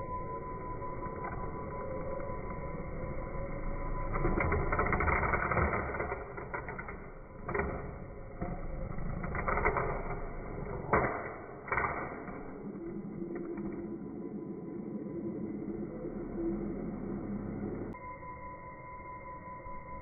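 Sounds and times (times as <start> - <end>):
drone motors whirring: 0.0 - 18.0.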